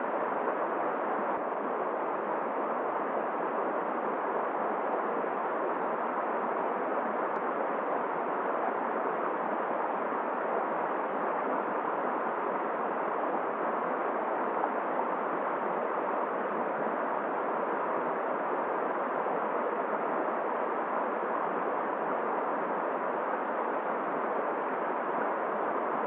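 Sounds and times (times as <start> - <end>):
wind: 0.0 - 26.0.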